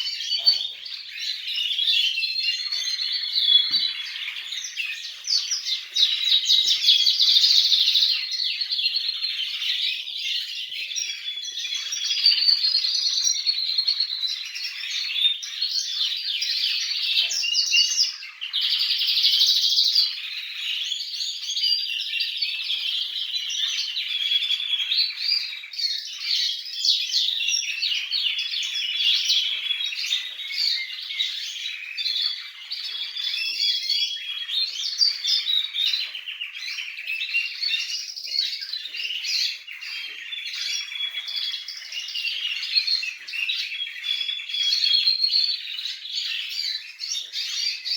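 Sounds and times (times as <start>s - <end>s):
canaries chirping and trilling: 0.0s - 47.9s.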